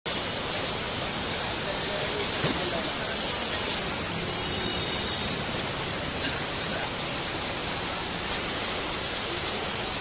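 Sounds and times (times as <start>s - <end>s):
river rushing: 0.1s - 10.0s.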